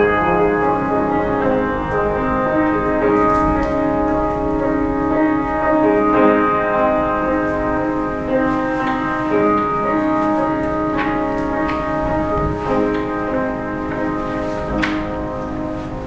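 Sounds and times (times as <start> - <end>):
grand piano playing slow chords: 0.0 - 16.0.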